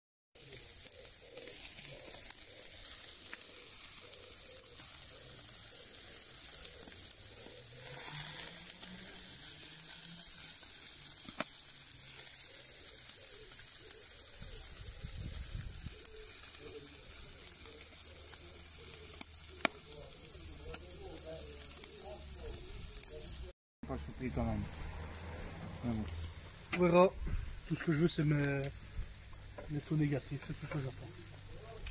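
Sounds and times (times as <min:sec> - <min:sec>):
meat sizzling on grill: 0:00.4 - 0:31.9.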